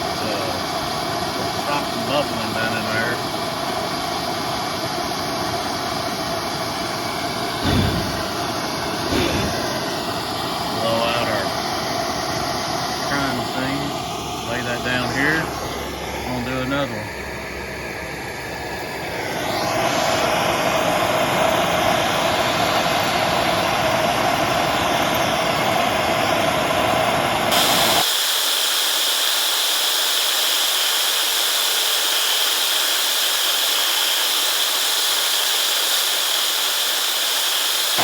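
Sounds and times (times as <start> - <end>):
gas torch roaring: 0.0 - 38.0.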